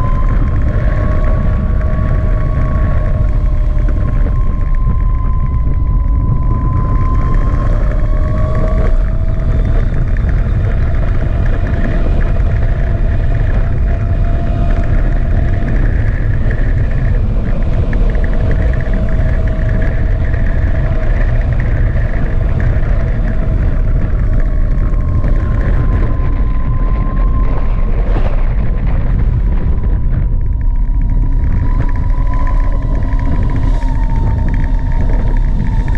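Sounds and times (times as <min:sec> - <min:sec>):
electric motor whine: 0:00.0 - 0:35.9
scooter low rumble: 0:00.0 - 0:35.9.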